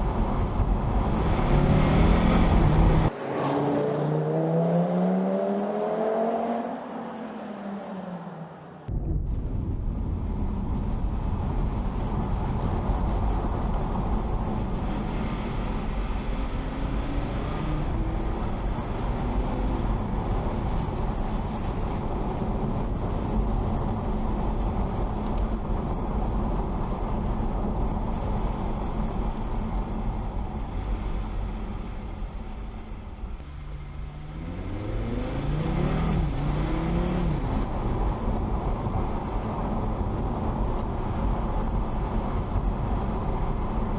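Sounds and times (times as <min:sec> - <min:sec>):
car engine accelerating: 0:00.0 - 0:43.9
road noise: 0:00.0 - 0:43.9.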